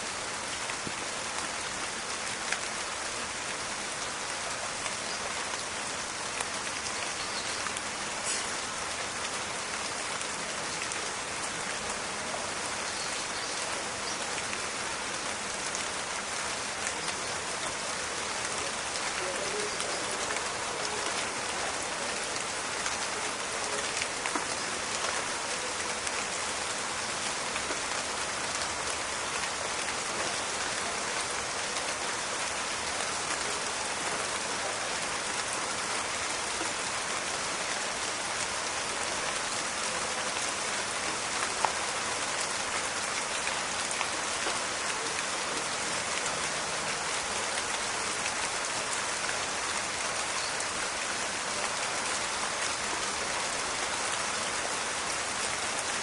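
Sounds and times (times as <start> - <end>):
rain falling in a forest: 0.0 - 56.0.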